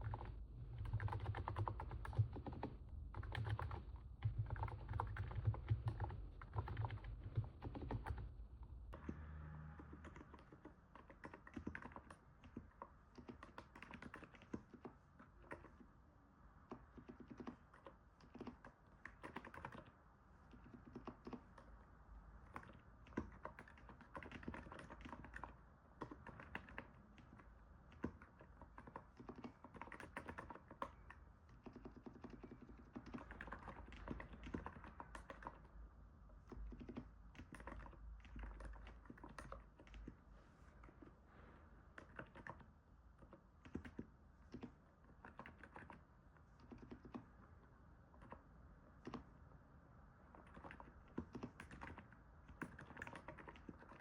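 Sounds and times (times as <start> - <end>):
soft keyboard typing: 0.0 - 41.2, 41.8 - 54.0.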